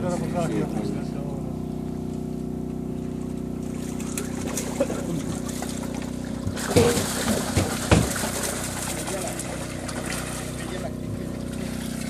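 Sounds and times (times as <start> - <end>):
motor humming: 0.0 - 12.0
water sloshing and splashing: 0.0 - 12.0.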